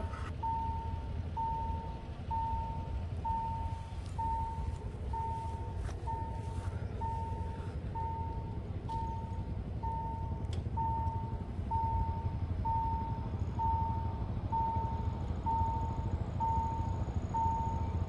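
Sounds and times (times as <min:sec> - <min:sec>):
level crossing warning beeps: 0:00.0 - 0:18.0
low steady rumble: 0:00.0 - 0:18.0.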